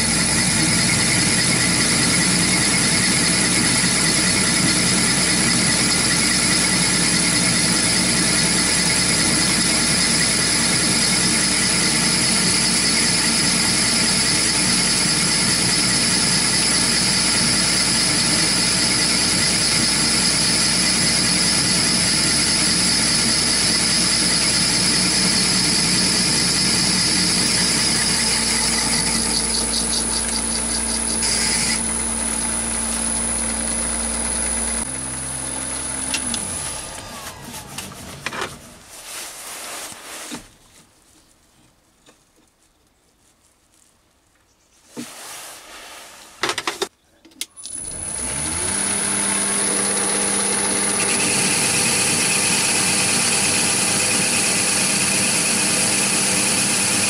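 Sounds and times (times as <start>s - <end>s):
high-pitched lathe cutting noise: 0.0s - 37.4s, 47.7s - 57.0s
lathe motor humming: 0.0s - 38.2s, 47.7s - 57.0s.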